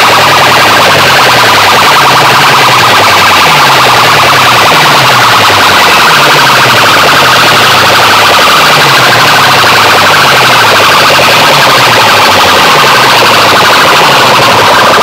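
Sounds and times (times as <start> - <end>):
distorted wailing electronic alarm: 0.0 - 15.0.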